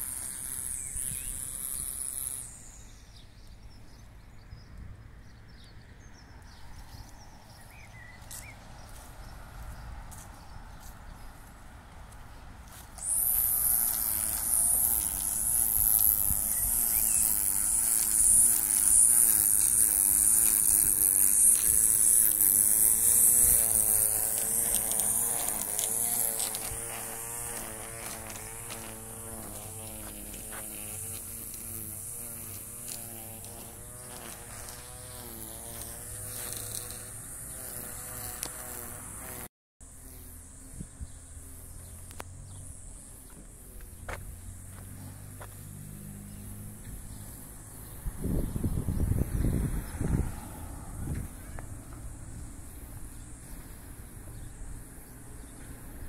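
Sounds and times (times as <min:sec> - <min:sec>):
string trimmer buzzing: 0:00.0 - 0:03.7, 0:06.8 - 0:56.0.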